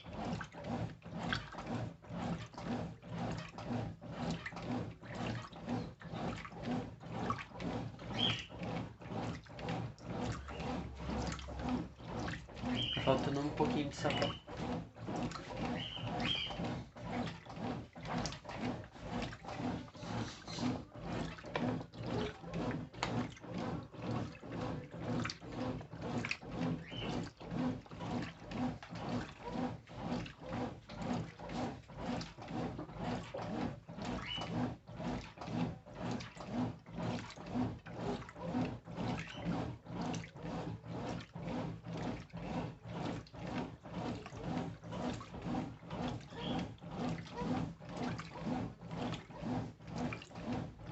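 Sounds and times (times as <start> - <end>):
motor hum: 0.0 - 50.9
washing machine sloshing water: 0.0 - 50.9.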